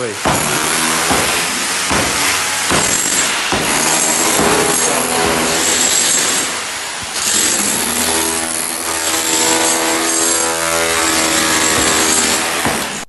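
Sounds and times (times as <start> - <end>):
power tool grinding and rattling: 0.0 - 13.0.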